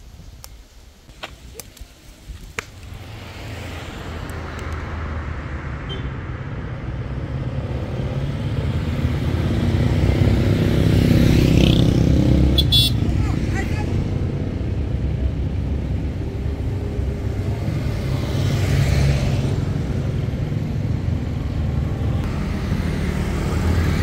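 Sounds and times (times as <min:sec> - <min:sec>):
vehicle engine approaching: 0:02.8 - 0:24.0.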